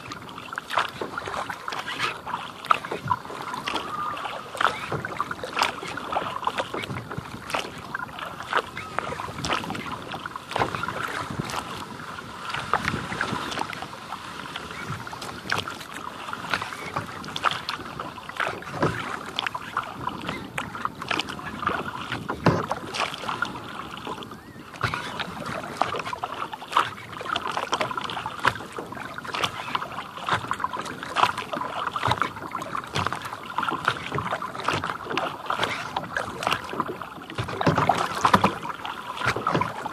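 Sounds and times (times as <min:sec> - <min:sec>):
paddle dipping and dripping: 0:00.0 - 0:39.9
water lapping against hull: 0:00.0 - 0:39.9.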